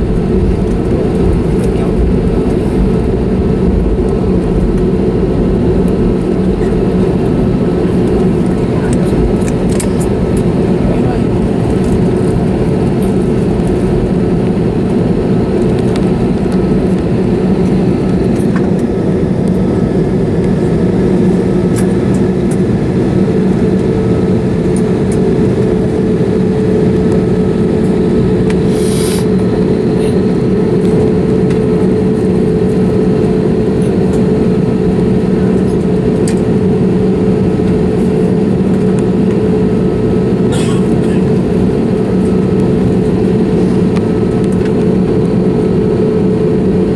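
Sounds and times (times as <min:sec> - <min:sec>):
airplane cabin rumble and hum: 0:00.0 - 0:46.9.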